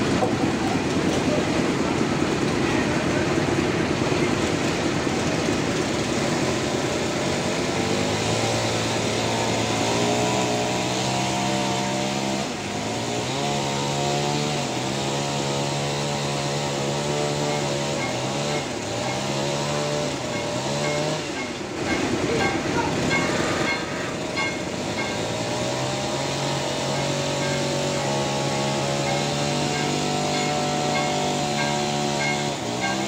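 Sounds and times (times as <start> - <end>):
machine drone: 0.0 - 33.0
sawmill cutting log: 0.0 - 33.0.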